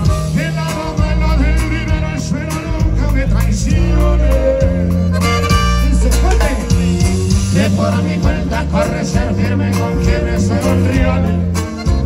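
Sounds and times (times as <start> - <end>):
accordion: 0.0 - 12.0
drums keeping the beat: 0.0 - 12.0
tuba playing low bass notes: 0.0 - 12.0.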